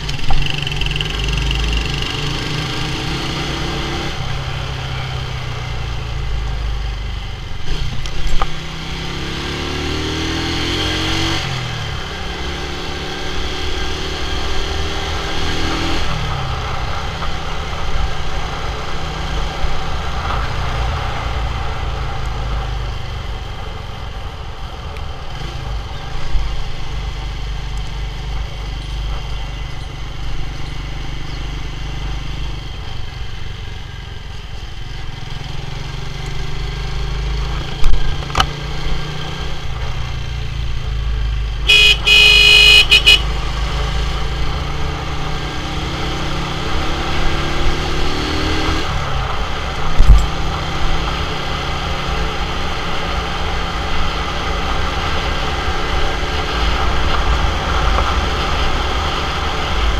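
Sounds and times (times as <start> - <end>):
motorcycle engine revving: 0.0 - 23.7, 25.3 - 59.9
wind and road rush: 0.0 - 59.9.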